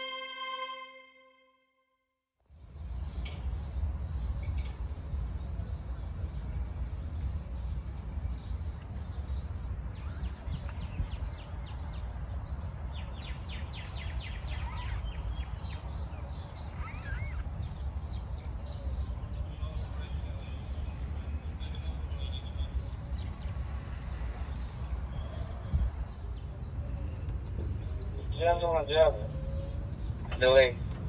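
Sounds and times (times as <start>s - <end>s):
small birds chirping: 2.6s - 31.0s.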